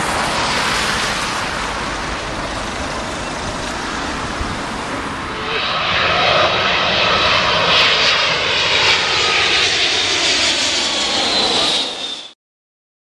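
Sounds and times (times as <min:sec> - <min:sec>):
jet engines roaring: 0:00.0 - 0:12.4.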